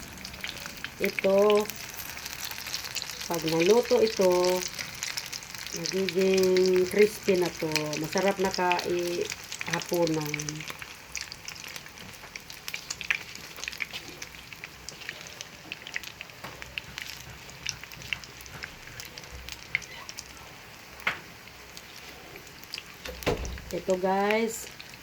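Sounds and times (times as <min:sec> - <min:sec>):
oil crackling and popping: 0:00.0 - 0:25.0
patties sizzling in hot oil: 0:00.0 - 0:25.0.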